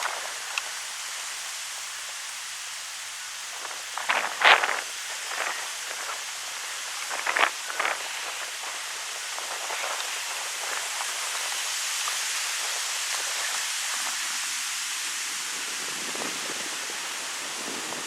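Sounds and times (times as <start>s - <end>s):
wind rustling tree leaves: 0.0s - 18.0s.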